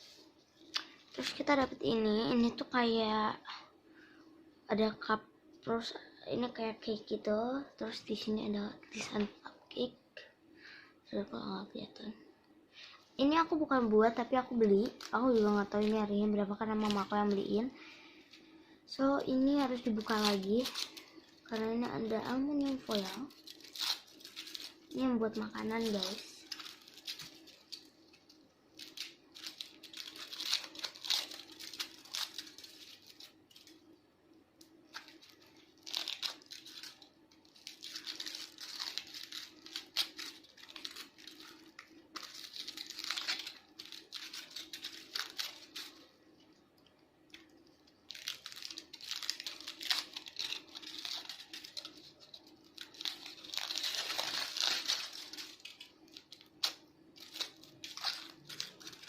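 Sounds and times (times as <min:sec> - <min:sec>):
aluminium foil crinkling: 0:00.0 - 0:02.9, 0:13.4 - 0:34.0, 0:34.6 - 0:59.0.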